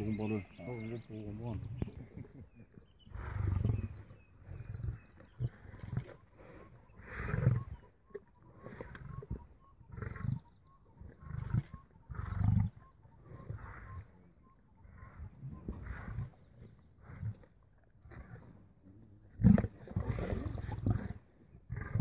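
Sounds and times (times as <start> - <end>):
lions growling: 0.0 - 22.0.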